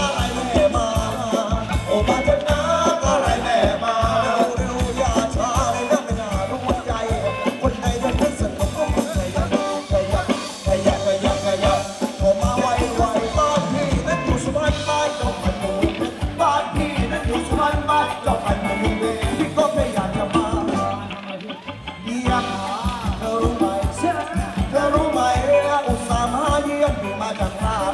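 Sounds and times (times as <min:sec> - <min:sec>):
fast drum beat: 0:00.0 - 0:27.9
person singing: 0:00.0 - 0:27.9.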